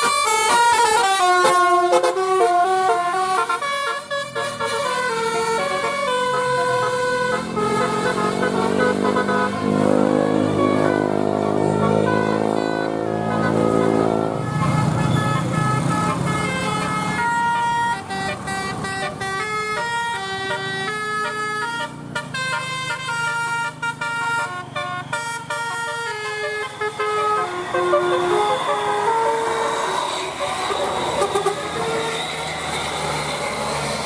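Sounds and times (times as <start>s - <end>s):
bus horn playing a tune: 0.0s - 32.4s
bus engine running: 0.0s - 34.0s.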